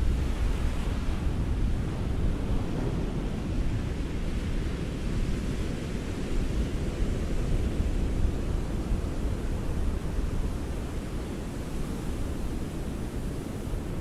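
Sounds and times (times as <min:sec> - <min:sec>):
ocean waves washing on beach: 0:00.0 - 0:14.0.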